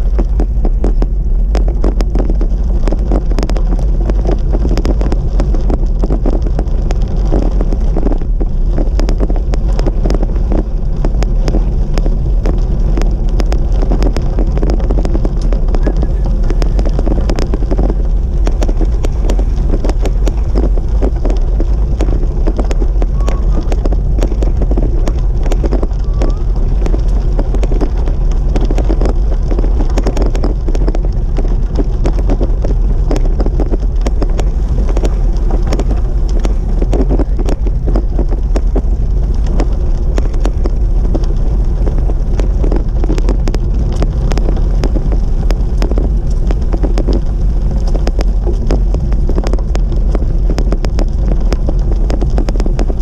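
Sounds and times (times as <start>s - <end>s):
tyres crunching on gravel trail: 0.0s - 53.0s
wind buffeting microphone: 0.0s - 53.0s.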